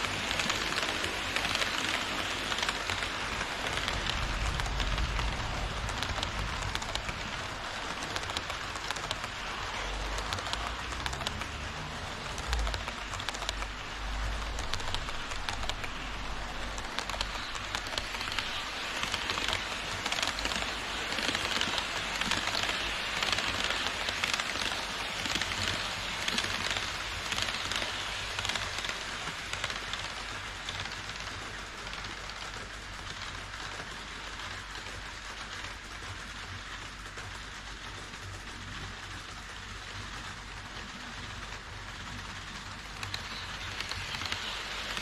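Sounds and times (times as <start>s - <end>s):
model train wheels rattling on rails: 0.0s - 45.0s.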